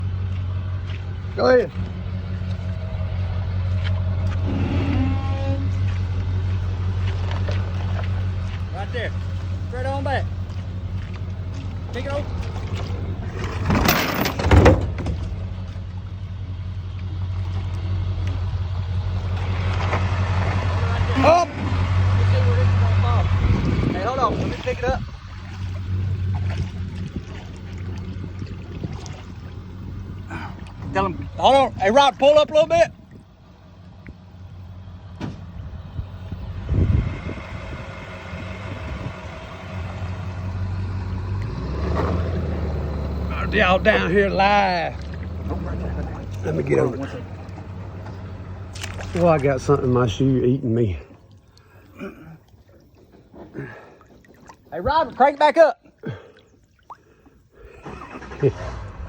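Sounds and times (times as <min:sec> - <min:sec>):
engine running steadily: 0:00.0 - 0:55.1.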